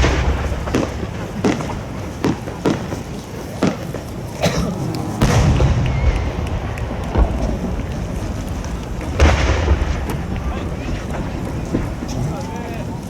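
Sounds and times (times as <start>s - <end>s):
heavy rolling boom: 0.0s - 3.8s, 4.7s - 13.0s
fireworks shells booming: 0.0s - 13.0s.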